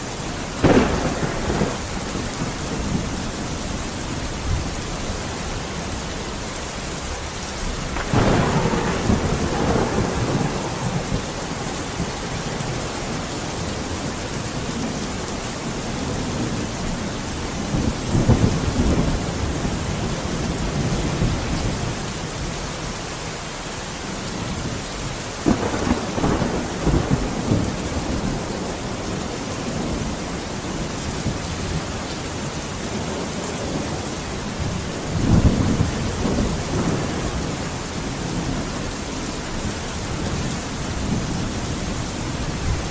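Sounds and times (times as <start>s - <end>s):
heavy rain: 0.0s - 42.9s
thunder rumbling: 0.6s - 6.2s, 7.2s - 17.0s, 17.6s - 22.5s, 24.6s - 42.9s.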